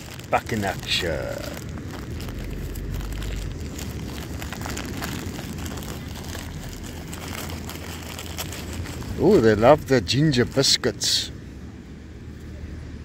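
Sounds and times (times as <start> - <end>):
faint crackles: 0.0 - 10.6.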